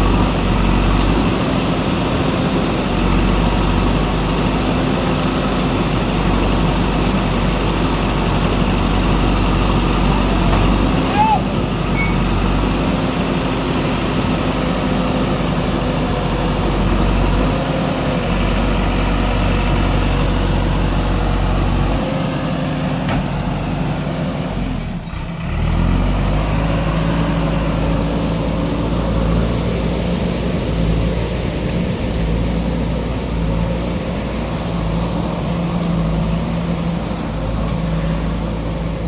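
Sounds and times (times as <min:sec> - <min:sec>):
diesel engines working: 0:00.0 - 0:39.0.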